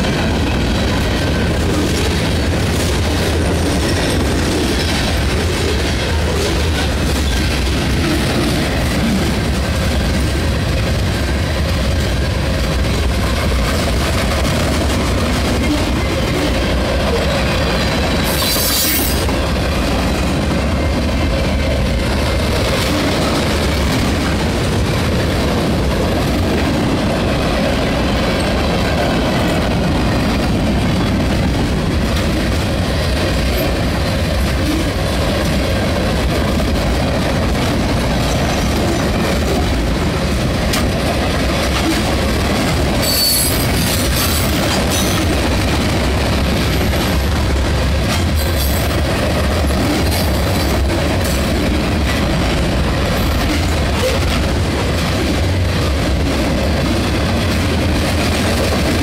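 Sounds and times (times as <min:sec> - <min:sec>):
freight train rumbling and rattling: 0:00.0 - 0:59.0.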